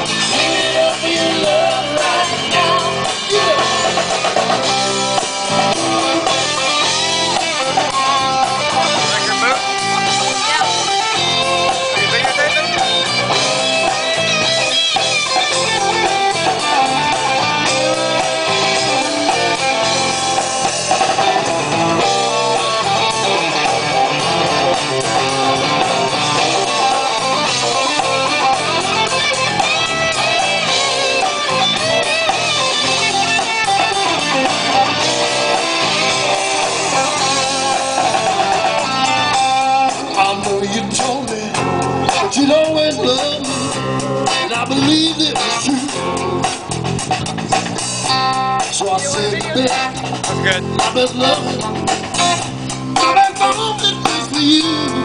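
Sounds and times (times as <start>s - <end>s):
live band with guitar lead: 0.0s - 55.0s.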